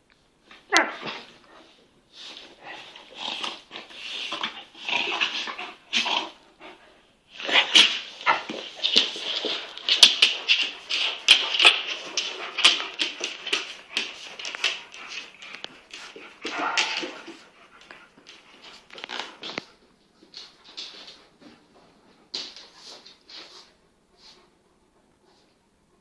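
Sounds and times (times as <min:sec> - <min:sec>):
dogs play-fighting: 0:00.5 - 0:25.6.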